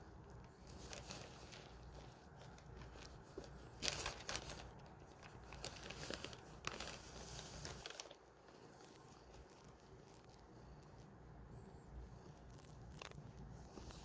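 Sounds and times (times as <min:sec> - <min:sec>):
plastic sheet crinkling: 0:00.0 - 0:11.1, 0:12.3 - 0:14.0.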